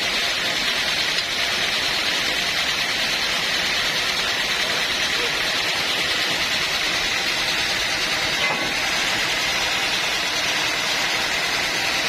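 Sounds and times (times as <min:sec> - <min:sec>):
sawmill machinery hissing: 0:00.0 - 0:12.0.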